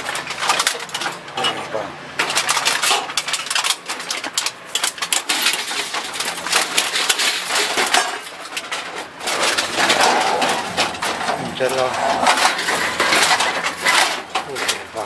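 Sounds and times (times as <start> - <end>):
scrap metal clattering and scraping: 0.0 - 15.0.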